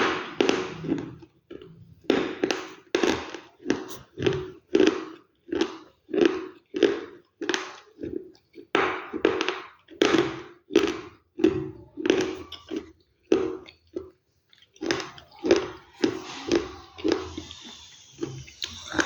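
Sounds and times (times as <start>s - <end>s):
crunchy chewing: 0.7s - 19.0s.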